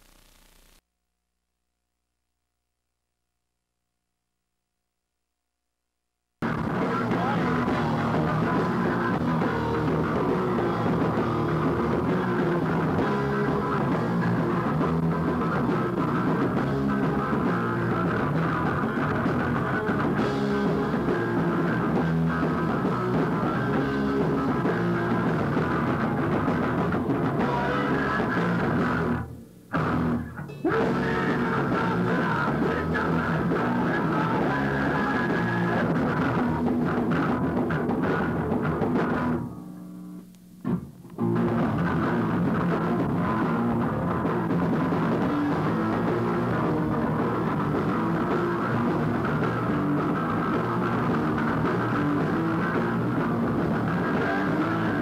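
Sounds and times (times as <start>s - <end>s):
distorted electric guitars: 0.0s - 0.8s, 6.4s - 55.0s
pounding drum kit: 6.4s - 39.4s, 40.7s - 55.0s.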